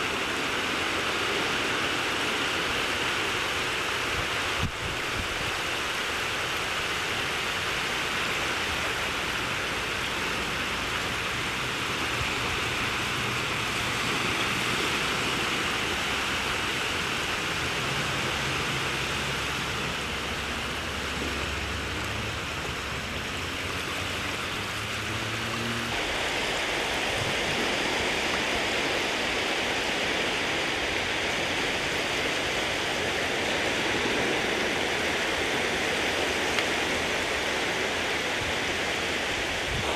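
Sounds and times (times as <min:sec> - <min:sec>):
sea water lapping: 0:00.0 - 0:39.9.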